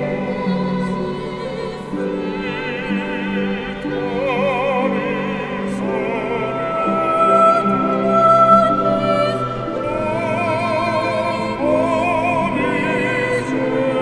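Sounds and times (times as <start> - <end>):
classical chamber music: 0.0 - 14.0.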